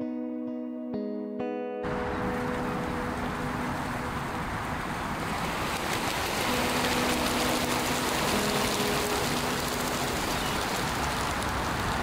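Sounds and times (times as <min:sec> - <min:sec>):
wind: 0:01.8 - 0:12.0
lake water rushing: 0:01.9 - 0:12.0.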